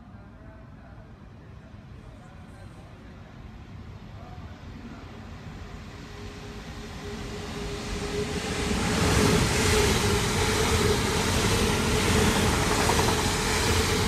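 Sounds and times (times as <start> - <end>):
passenger train passing at speed: 0.0 - 14.0.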